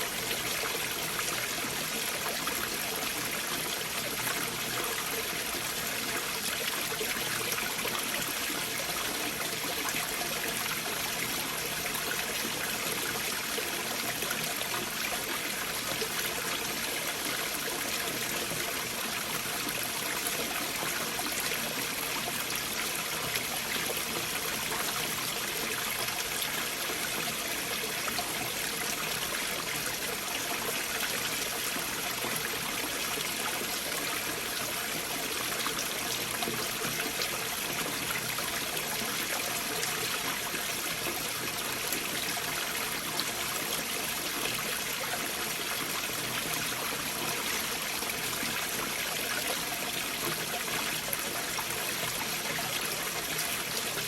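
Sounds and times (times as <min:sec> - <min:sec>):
stream water flowing over boulders: 0:00.0 - 0:54.0.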